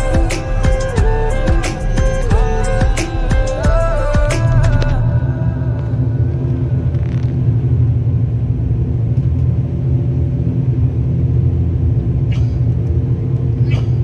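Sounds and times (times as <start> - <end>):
turboprop engines droning in cabin: 0.0 - 14.0.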